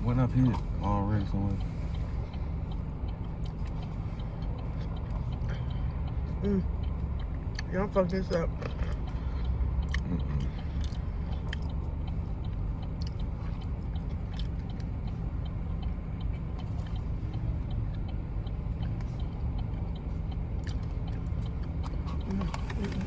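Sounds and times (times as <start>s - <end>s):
road rumble inside car: 0.0s - 23.0s.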